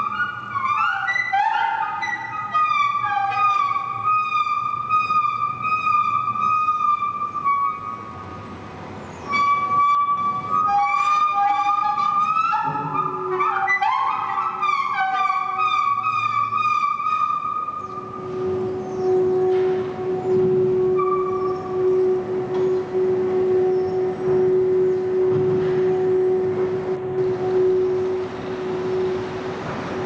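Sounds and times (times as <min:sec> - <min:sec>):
monorail wheels squealing: 0:00.0 - 0:30.0.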